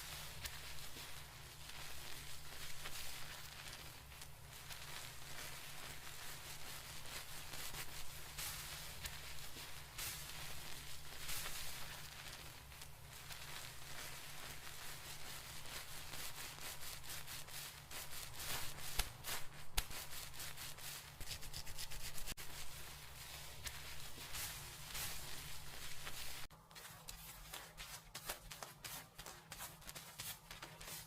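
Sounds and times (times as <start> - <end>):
hands rubbing hair: 0.0 - 31.0.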